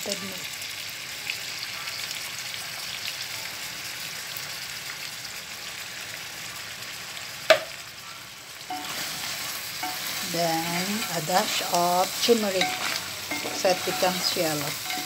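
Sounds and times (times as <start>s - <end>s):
butter sizzling in a pot: 0.0s - 15.0s.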